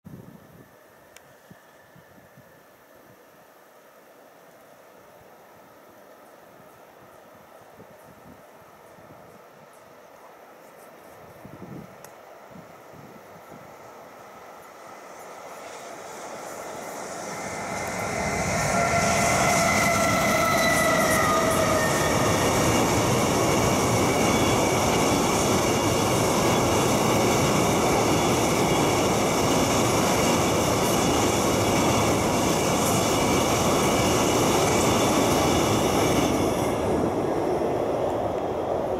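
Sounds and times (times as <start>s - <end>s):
electric locomotive whine: 0.1s - 38.9s.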